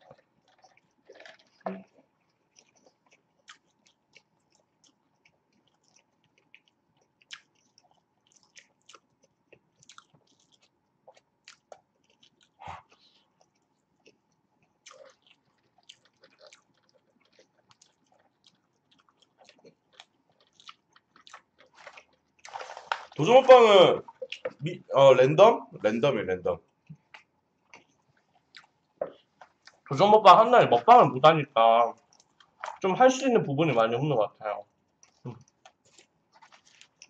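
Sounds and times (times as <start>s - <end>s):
people chewing food: 0.0s - 37.0s.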